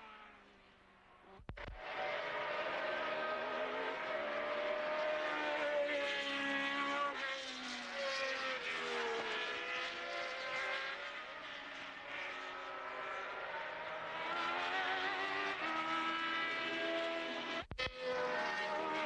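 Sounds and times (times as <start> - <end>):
racing car engines passing: 1.6 - 19.0.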